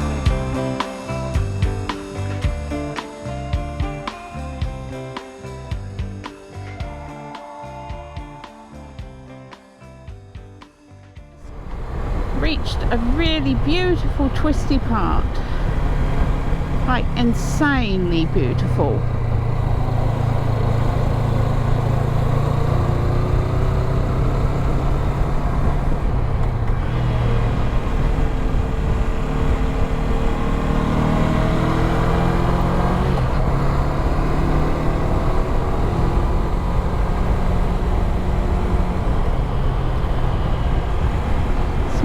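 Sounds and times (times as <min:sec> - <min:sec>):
wind and road noise: 0:00.0 - 0:06.2, 0:11.4 - 0:42.0
motorcycle engine accelerating: 0:00.0 - 0:07.2, 0:11.4 - 0:42.0.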